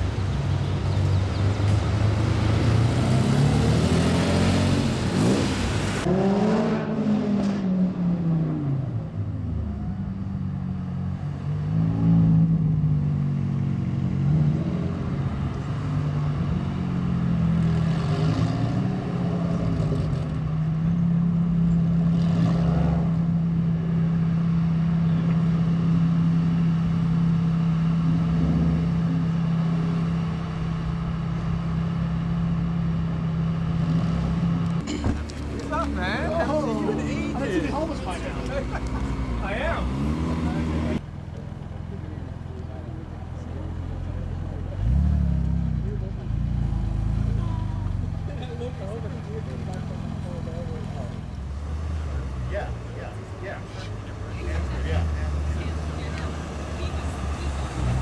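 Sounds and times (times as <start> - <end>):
sports car engine droning: 0.0 - 58.0.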